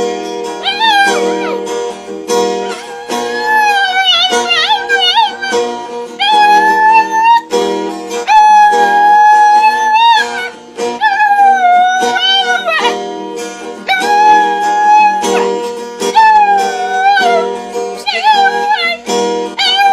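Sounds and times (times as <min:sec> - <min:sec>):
strummed acoustic guitar: 0:00.0 - 0:19.9
dog howling: 0:00.6 - 0:01.7, 0:02.5 - 0:07.5, 0:08.2 - 0:13.0, 0:13.8 - 0:19.9.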